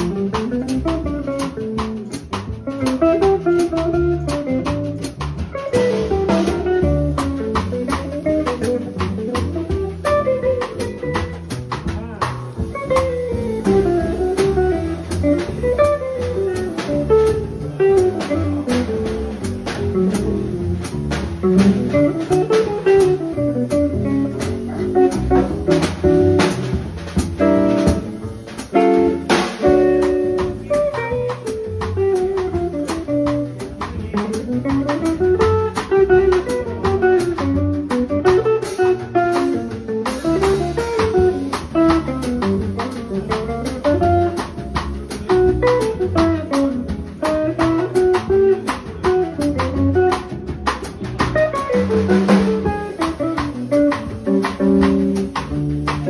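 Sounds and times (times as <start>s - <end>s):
bass notes: 0.0s - 56.0s
drum kit: 0.0s - 56.0s
guitar melody: 0.0s - 56.0s.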